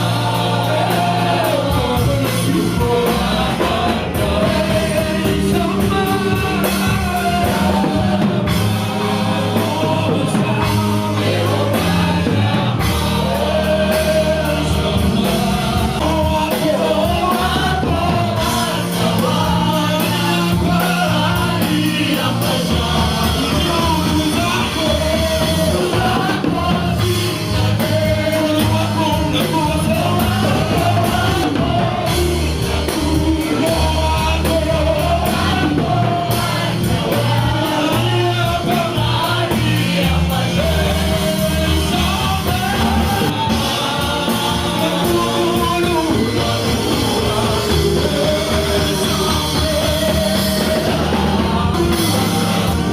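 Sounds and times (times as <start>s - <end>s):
bass guitar: 0.0s - 52.9s
drums: 0.0s - 52.9s
singers singing: 0.0s - 52.9s.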